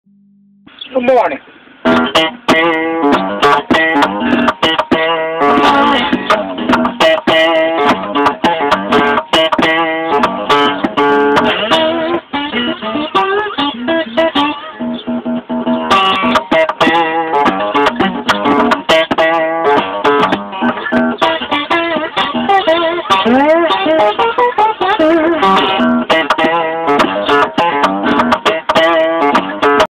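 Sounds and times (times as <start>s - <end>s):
acoustic guitar strumming: 0.8s - 29.9s.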